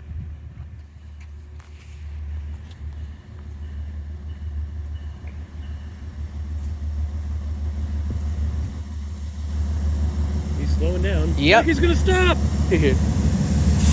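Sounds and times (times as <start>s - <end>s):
diesel locomotive rumble: 0.0s - 13.9s.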